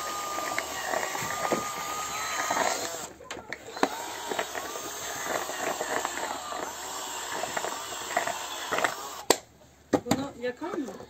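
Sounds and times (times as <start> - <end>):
cordless drill drilling plastic: 0.0 - 9.4
plastic crackling and knocking: 0.0 - 11.0.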